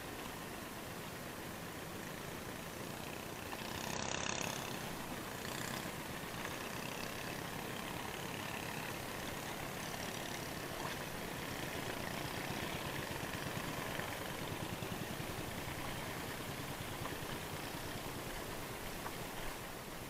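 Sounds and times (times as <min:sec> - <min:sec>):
boat engine running: 0:00.0 - 0:20.0
water moving along hull: 0:00.0 - 0:20.0.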